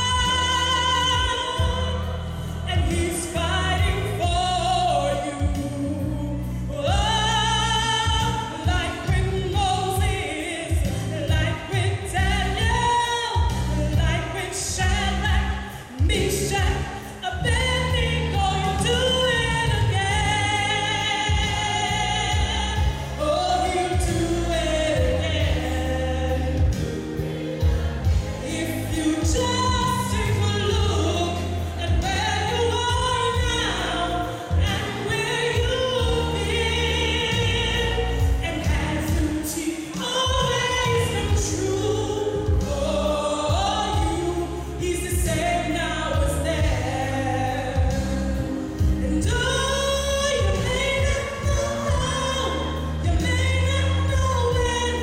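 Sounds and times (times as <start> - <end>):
live band playing: 0.0 - 55.0
woman singing gospel: 0.0 - 55.0.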